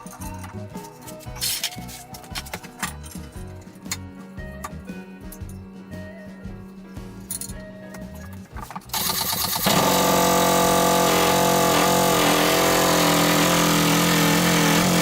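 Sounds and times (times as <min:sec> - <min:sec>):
excavator engine starting and running: 0:00.0 - 0:15.0.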